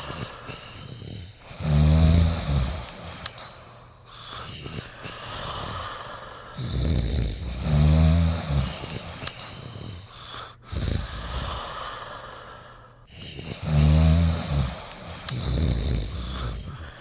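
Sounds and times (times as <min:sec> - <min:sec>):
loud low snoring: 0:00.0 - 0:03.3, 0:04.6 - 0:12.2, 0:13.1 - 0:17.0
quiet breathing: 0:00.0 - 0:17.0.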